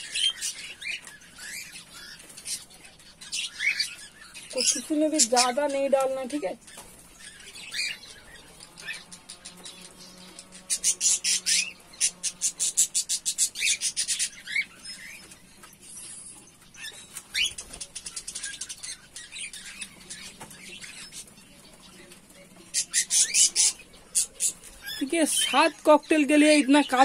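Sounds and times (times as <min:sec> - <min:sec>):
cage birds chirping: 0:00.0 - 0:27.0.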